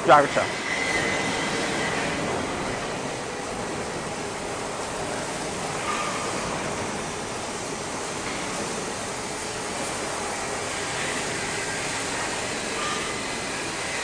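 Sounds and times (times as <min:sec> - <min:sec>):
workshop machinery din: 0:00.0 - 0:14.0.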